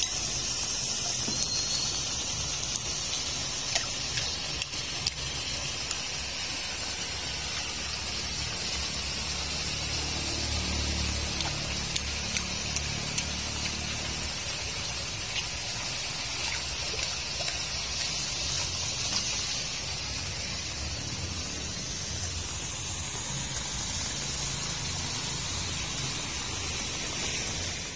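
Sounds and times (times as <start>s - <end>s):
rain falling: 0.0s - 27.9s
water gushing through drain grate: 0.0s - 27.9s.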